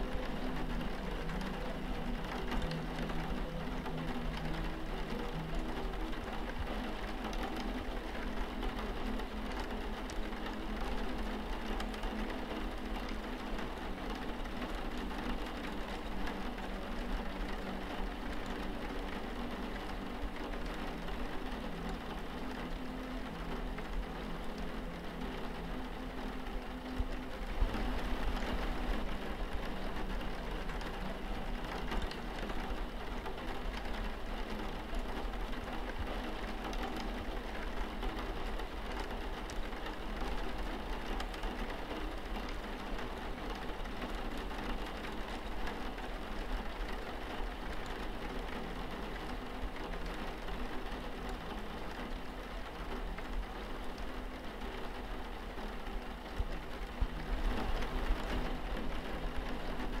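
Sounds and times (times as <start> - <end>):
low steady hum: 0.0 - 60.0
rain on a window: 0.0 - 60.0.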